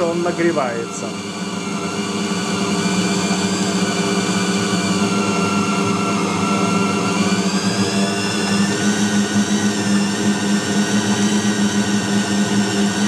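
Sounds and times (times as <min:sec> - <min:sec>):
bowl cutter motor humming: 0:00.0 - 0:13.0.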